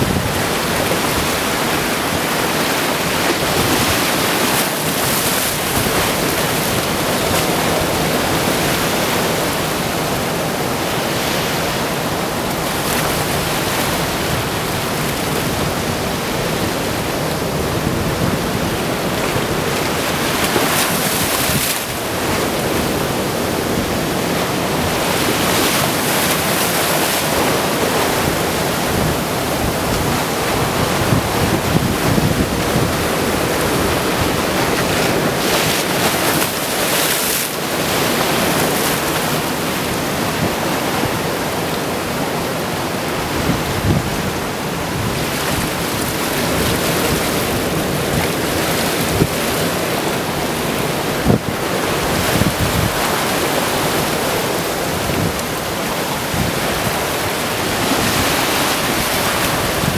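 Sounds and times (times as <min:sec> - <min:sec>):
small waves washing over sand: 0:00.0 - 0:59.9.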